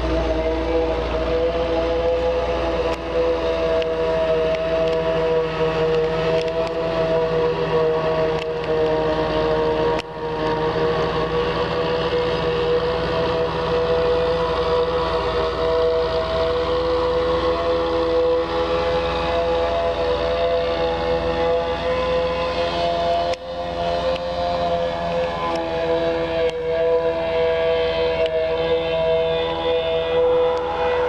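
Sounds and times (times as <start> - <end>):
truck engine rumble: 0.0 - 31.0
two-toned whine: 0.0 - 31.0.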